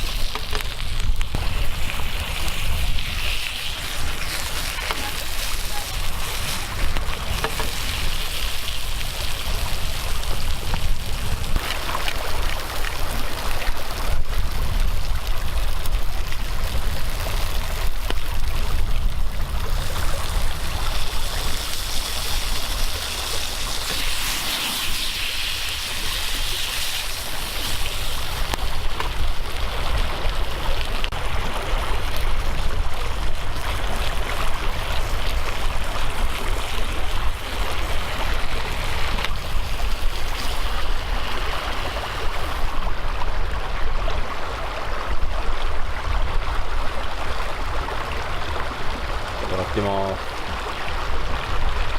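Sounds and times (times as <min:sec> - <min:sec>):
stream rushing water: 0:00.0 - 0:51.9.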